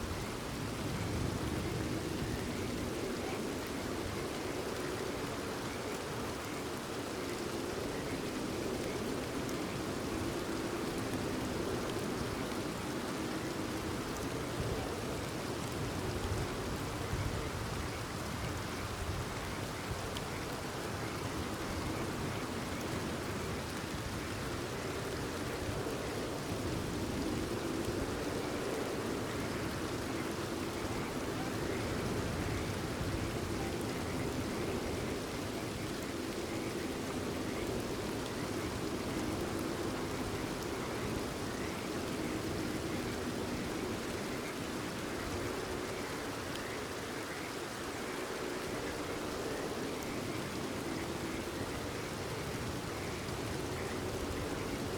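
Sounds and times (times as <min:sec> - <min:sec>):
frogs calling faintly: 0:00.0 - 0:54.9
steady rain falling: 0:00.0 - 0:54.9.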